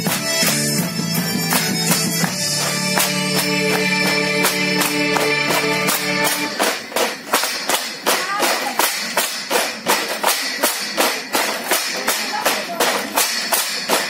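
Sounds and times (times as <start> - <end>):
bamboo poles clacking: 1.4 - 14.0.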